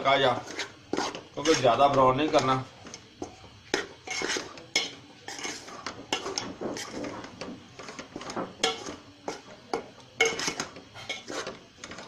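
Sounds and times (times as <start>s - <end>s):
utensil scraping a cooking pan: 0.0s - 12.0s.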